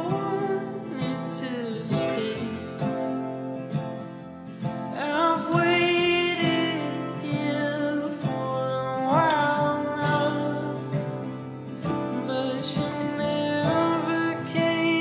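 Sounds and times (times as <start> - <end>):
person singing: 0.0 - 3.6, 4.7 - 15.0
acoustic guitar music: 0.0 - 15.0.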